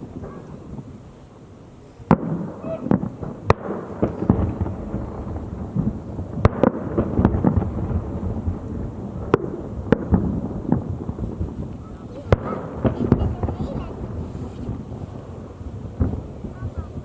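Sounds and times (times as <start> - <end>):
fireworks bangs: 0.0 - 17.0
rumble of explosions: 2.0 - 17.0.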